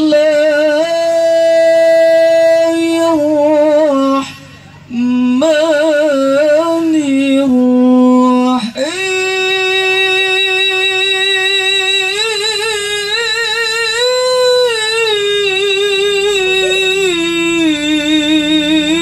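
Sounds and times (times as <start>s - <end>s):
man reciting melodically into microphone: 0.0s - 19.0s.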